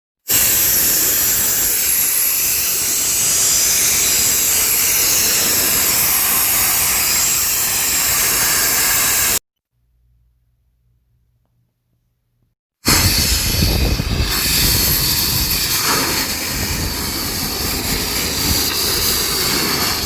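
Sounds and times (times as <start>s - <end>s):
sandblasting gun hissing: 0.3s - 9.4s, 12.8s - 20.0s.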